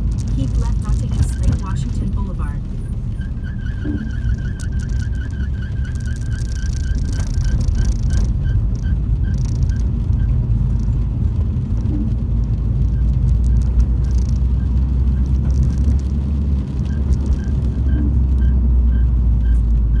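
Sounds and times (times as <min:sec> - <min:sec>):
drive belt chirping: 0:00.0 - 0:20.0
engine rumble: 0:00.0 - 0:20.0.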